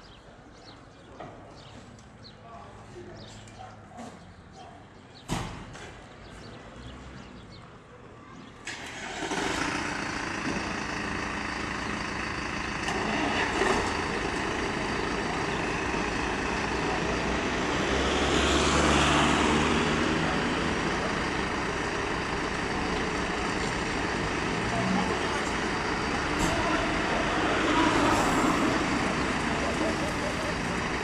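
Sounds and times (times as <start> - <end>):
diesel engines running: 5.7 - 31.0.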